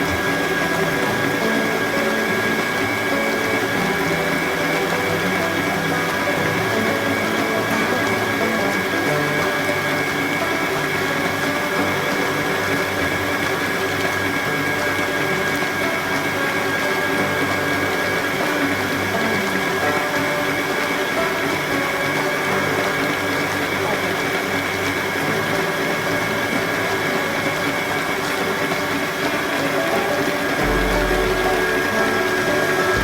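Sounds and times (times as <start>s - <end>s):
electric mixer motor whine: 0.0s - 21.6s, 22.4s - 33.0s.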